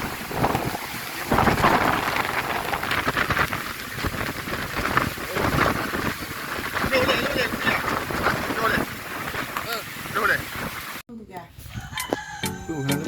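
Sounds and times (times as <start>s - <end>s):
heavy rain: 0.0s - 11.0s
gusting wind: 0.0s - 12.8s.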